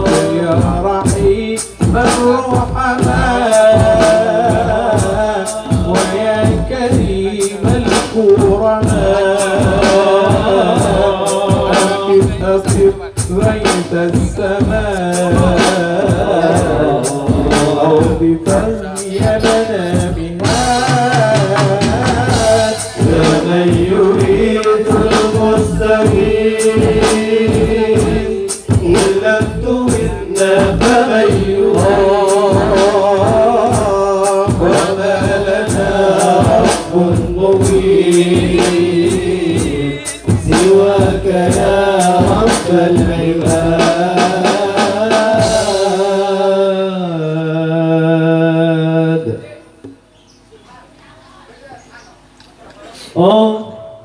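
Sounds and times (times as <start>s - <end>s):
fast percussion beats: 0.0s - 46.8s
men singing devotional song: 0.0s - 50.0s.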